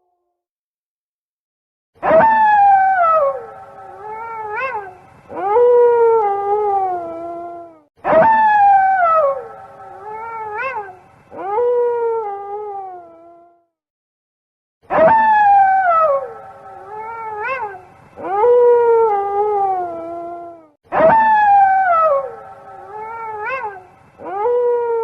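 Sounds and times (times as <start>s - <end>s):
wolf howling: 2.0s - 13.4s, 14.9s - 25.0s.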